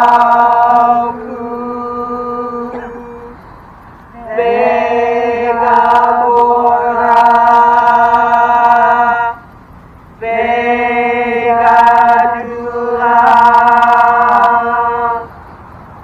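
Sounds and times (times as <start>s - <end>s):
person chanting a long note: 0.0s - 3.4s, 4.2s - 9.4s, 10.2s - 15.4s.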